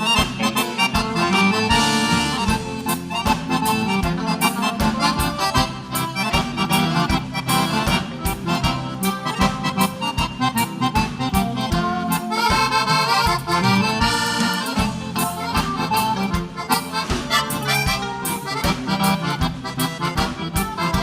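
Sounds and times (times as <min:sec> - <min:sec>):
dance band with accordion: 0:00.0 - 0:21.0.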